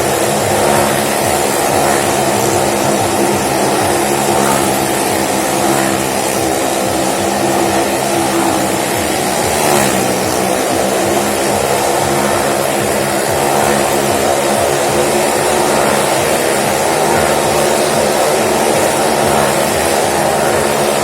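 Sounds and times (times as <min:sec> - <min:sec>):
motorcycle and car engines droning: 0:00.0 - 0:21.0.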